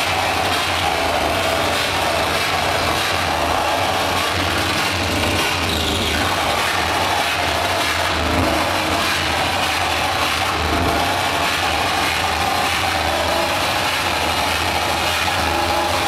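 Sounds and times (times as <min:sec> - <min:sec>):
harsh distorted noise music: 0:00.0 - 0:16.0.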